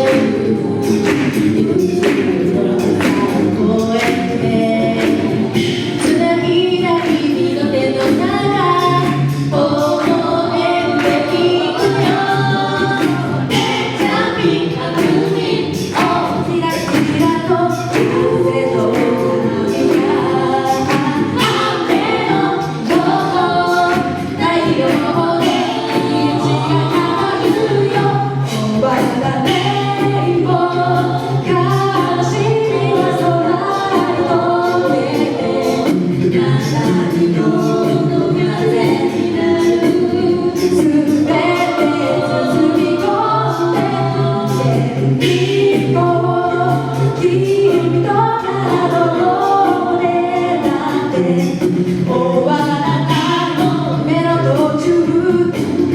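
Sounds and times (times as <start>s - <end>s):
a cappella group singing: 0.0s - 55.9s
vocal percussion beat: 0.0s - 55.9s.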